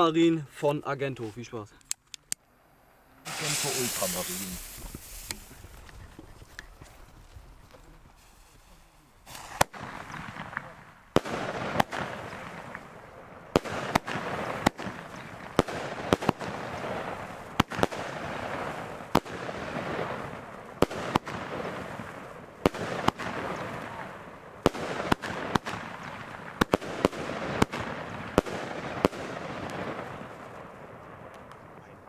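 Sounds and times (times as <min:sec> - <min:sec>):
steady hiss: 0:00.0 - 0:31.8
firework bangs: 0:03.2 - 0:32.0.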